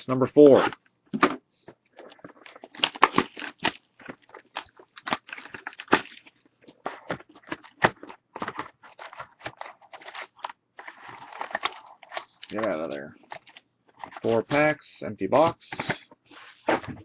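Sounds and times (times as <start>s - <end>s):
packaging tearing and crinkling: 2.0s - 14.6s, 15.7s - 16.9s.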